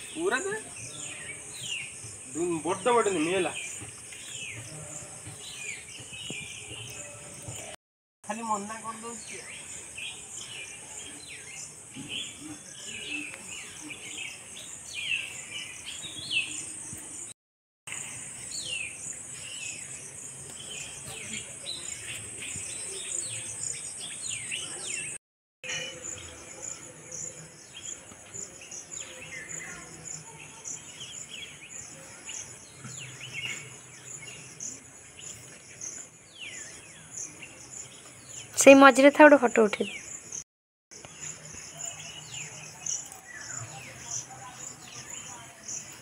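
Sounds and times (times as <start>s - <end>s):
small birds chirping: 0.0s - 25.2s, 26.0s - 46.0s.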